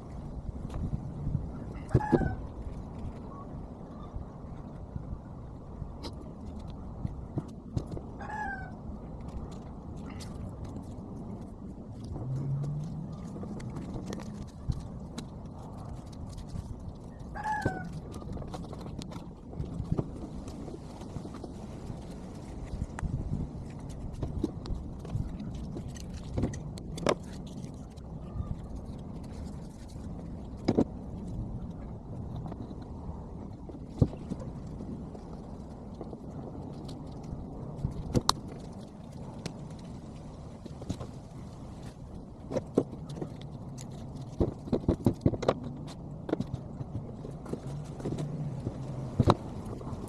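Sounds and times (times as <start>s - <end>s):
low rumble: 0.0s - 50.0s
steady low hum: 0.0s - 50.0s.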